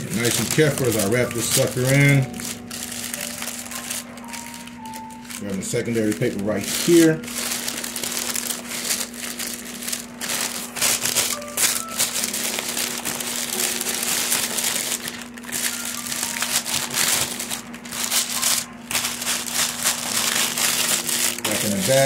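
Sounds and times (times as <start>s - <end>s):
paper crinkling and rustling: 0.0s - 22.0s.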